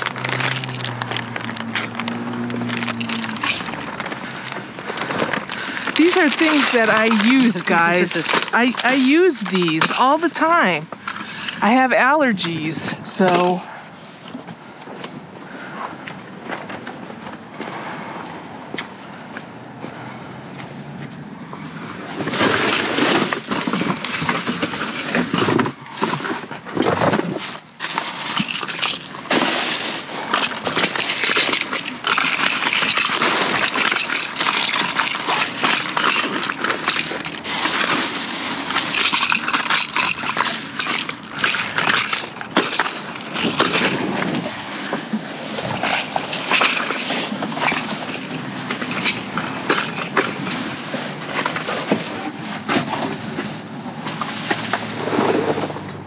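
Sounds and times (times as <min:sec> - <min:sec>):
cardboard and trash rustling: 0:00.0 - 0:15.1, 0:21.6 - 0:56.0.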